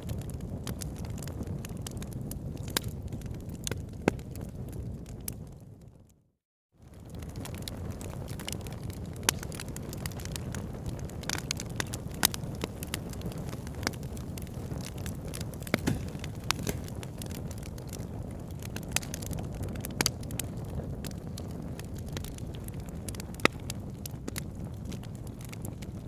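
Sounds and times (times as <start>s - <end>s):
fire crackling and popping: 0.0s - 6.1s, 6.8s - 26.0s
fire rumbling in fireplace: 0.0s - 6.1s, 6.8s - 26.0s.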